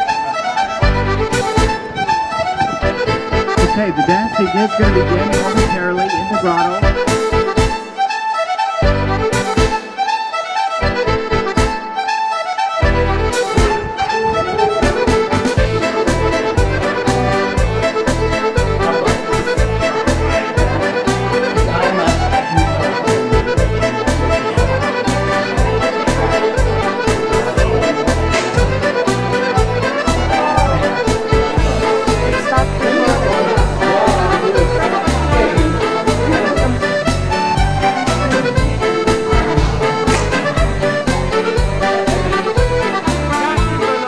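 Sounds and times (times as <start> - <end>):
instrumental music with quick beat: 0.0 - 44.0.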